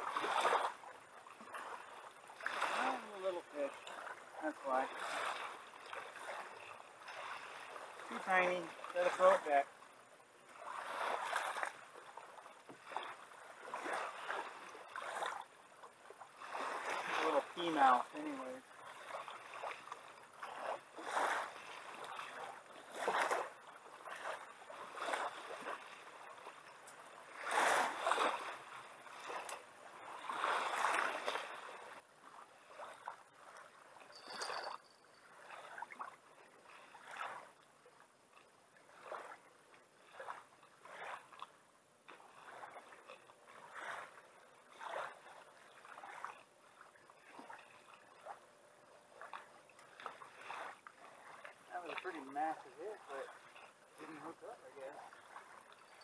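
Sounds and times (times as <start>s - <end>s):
water sloshing against kayak: 0.0s - 56.0s.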